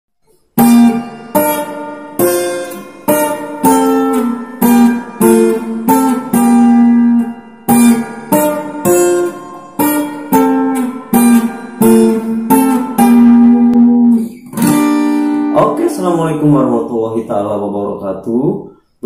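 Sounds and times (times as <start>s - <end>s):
acoustic guitar picked melody: 0.2s - 17.6s, 18.6s - 19.0s.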